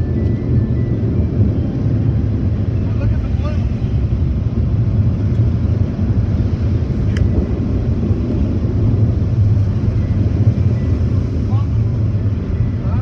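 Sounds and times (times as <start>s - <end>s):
car wash rumble inside cab: 0.0s - 13.0s.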